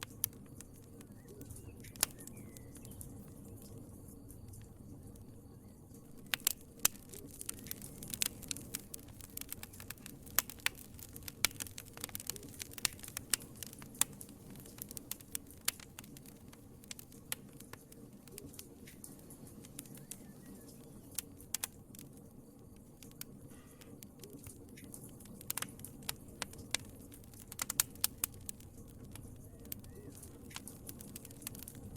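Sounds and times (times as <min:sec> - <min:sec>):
low rumble of flames: 0:00.0 - 0:31.9
wood fire crackling and popping: 0:00.0 - 0:31.9.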